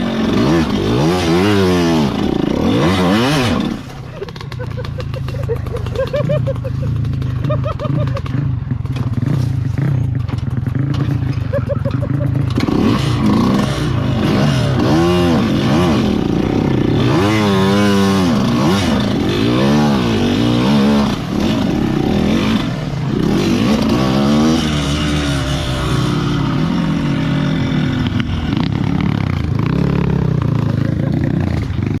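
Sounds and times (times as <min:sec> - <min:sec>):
two-stroke motorcycle engines revving: 0:00.0 - 0:32.0.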